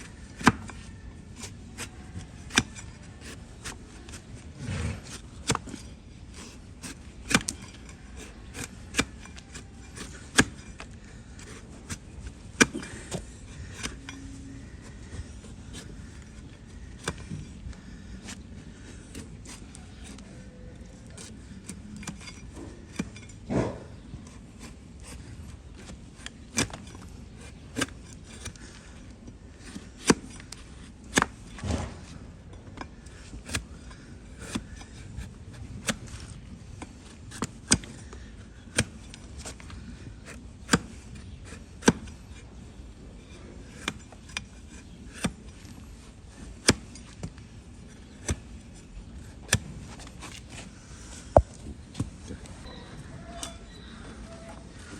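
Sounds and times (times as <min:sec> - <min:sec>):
heavy hoof cuts: 0:00.0 - 0:54.9.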